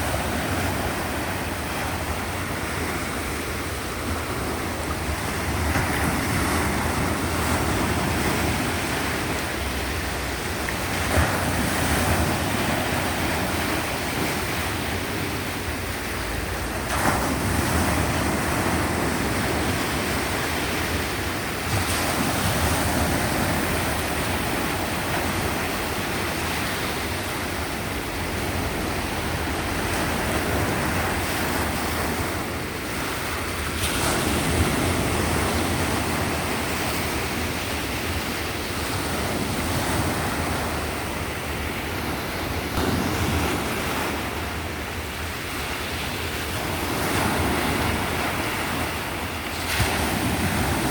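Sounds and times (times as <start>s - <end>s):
waves breaking on shore: 0.0s - 50.9s.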